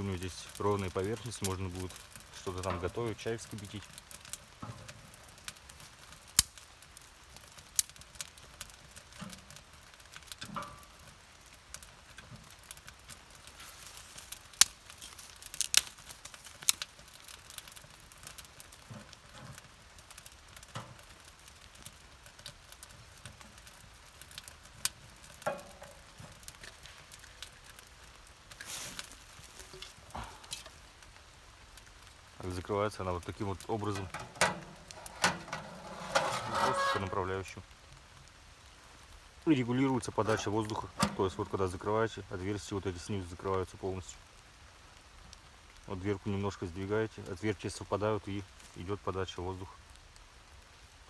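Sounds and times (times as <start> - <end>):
firewood crackling and popping: 0.0 - 51.0
sizzling hiss: 0.0 - 51.0.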